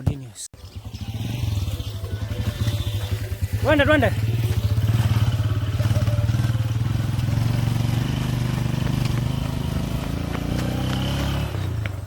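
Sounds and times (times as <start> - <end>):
vehicle engine running: 0.6 - 12.0.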